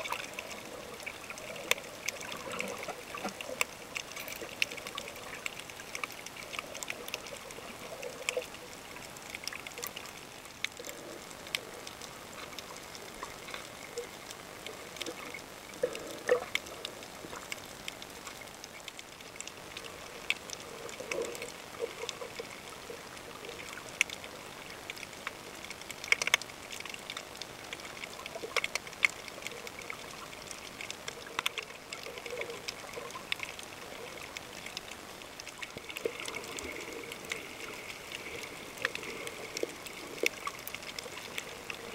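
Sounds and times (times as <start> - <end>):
sharp clicks and crackles: 0.0 - 41.9
underwater water noise: 0.0 - 41.9.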